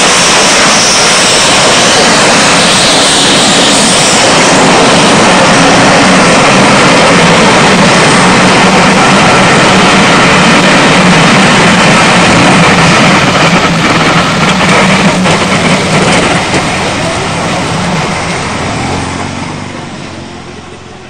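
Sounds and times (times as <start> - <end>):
steam locomotive exhaust: 0.0 - 21.0
train wheels roaring on rail: 0.0 - 21.0.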